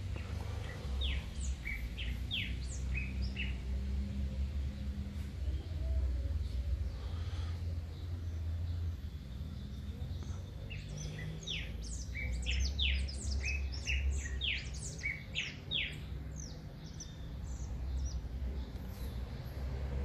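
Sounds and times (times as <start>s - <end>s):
songbird chirping rapidly: 0.0s - 20.0s.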